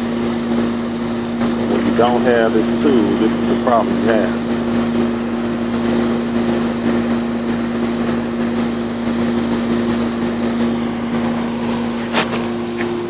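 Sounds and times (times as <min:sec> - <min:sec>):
compressor electrical hum: 0:00.0 - 0:13.0
condenser fan airflow: 0:00.0 - 0:13.0.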